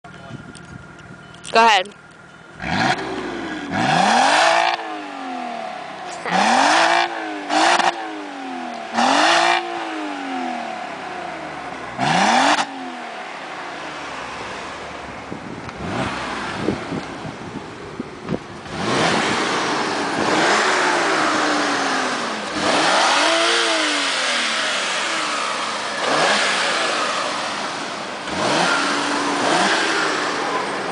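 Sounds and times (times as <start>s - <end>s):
car engine revving: 2.5s - 30.9s.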